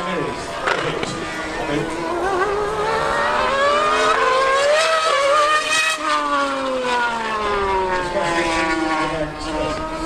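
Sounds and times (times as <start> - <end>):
high-revving engines accelerating: 0.0 - 10.0
lower engine note: 0.0 - 10.0.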